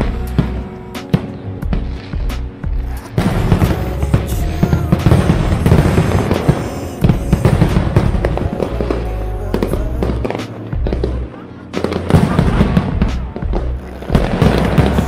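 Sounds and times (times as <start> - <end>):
fireworks booming and crackling: 0.0 - 15.0
music: 0.0 - 15.0.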